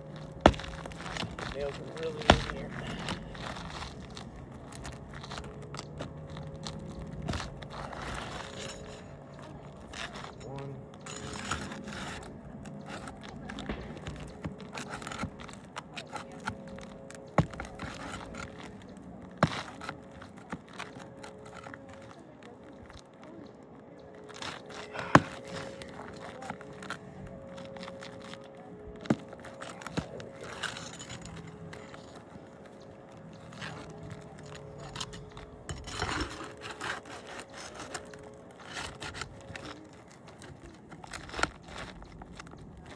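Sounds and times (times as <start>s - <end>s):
hand tool scraping at nails: 0.0s - 22.2s, 24.2s - 27.0s, 29.0s - 42.7s.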